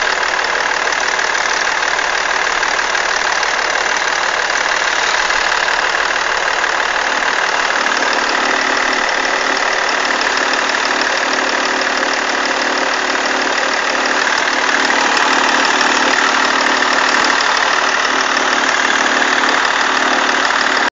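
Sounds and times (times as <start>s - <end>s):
diesel engine idling: 0.0s - 20.9s
rapid ticking chatter: 0.0s - 20.9s.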